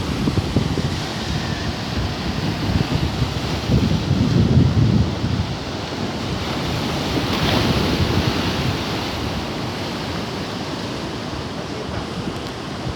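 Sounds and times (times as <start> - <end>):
surf washing onto shore: 0.0 - 12.9
wind rumbling on microphone: 0.0 - 12.9.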